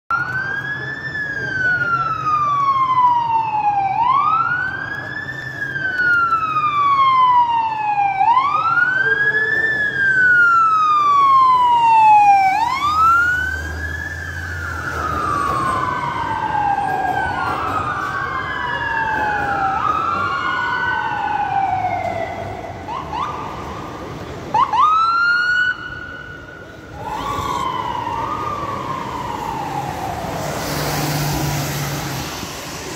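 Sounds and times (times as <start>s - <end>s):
siren whoops: 0.1s - 32.5s
sirens wailing: 0.1s - 32.9s.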